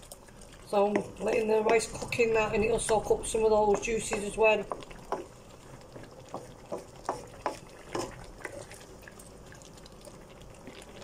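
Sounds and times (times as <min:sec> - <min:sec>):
sauce bubbles popping: 0:00.0 - 0:11.0.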